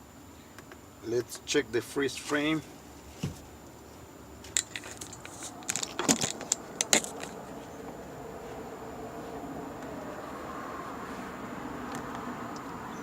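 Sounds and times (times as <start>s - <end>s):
faint hum with high whine: 0.0s - 13.0s.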